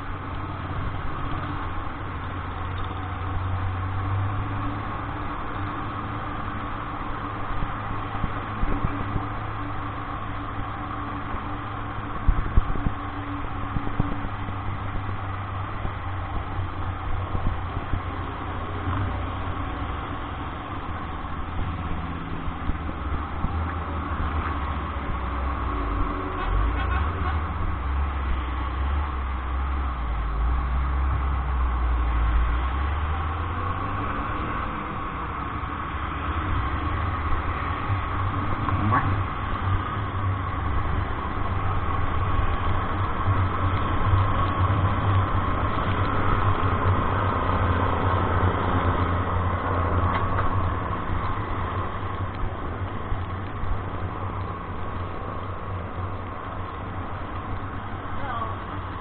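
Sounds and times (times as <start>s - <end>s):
road noise hiss: 0.0s - 59.0s
vehicle engine running: 0.0s - 59.0s.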